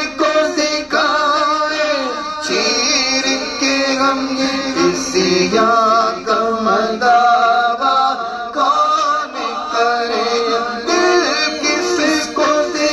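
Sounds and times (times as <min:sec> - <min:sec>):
men singing into microphones: 0:00.0 - 0:12.9.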